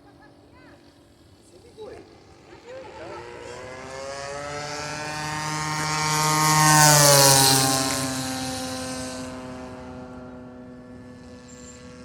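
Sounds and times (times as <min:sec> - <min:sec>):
model airplane engine passing: 0:00.0 - 0:12.0.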